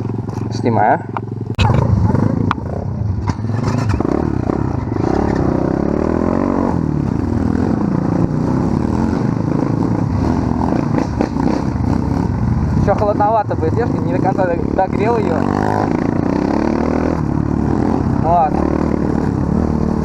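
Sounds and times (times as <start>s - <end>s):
small engines idling and revving: 0.0s - 20.0s.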